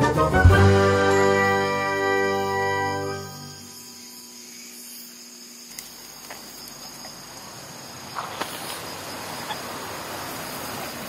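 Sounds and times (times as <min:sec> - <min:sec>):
insects chirring: 0:00.8 - 0:11.0.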